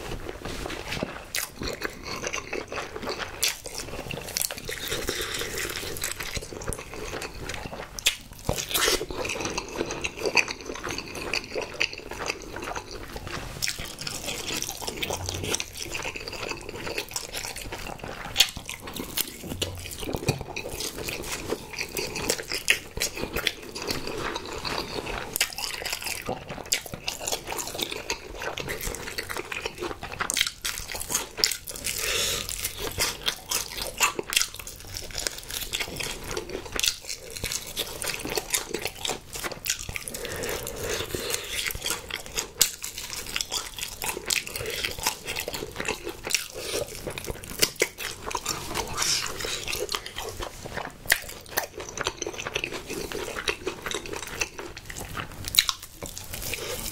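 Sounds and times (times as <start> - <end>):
wet chewing: 0.0 - 56.9.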